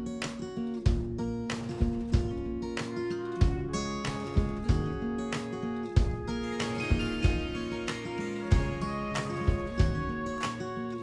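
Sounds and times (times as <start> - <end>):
guitar background music: 0.0 - 11.0
low thumping beat: 0.9 - 10.7.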